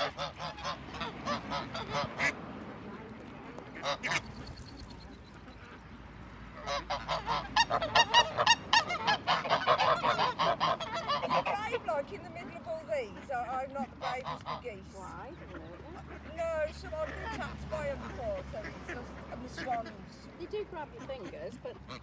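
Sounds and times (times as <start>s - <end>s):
geese honking: 0.0s - 2.4s, 3.7s - 4.6s, 6.5s - 22.0s.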